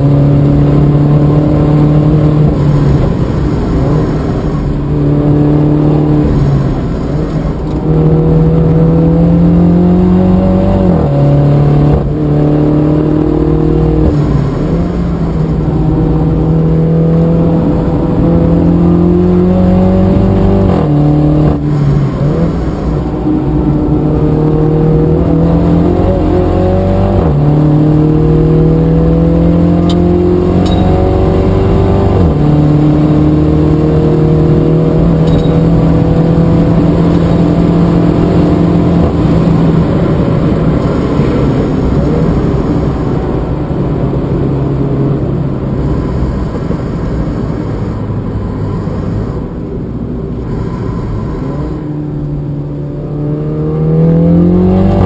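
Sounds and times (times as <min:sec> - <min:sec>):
car engine revving hard: 0:00.0 - 0:55.0.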